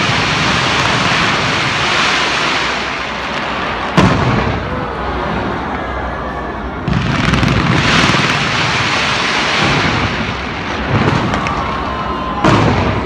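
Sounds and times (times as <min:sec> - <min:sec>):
fireworks barrage: 0:00.0 - 0:13.0.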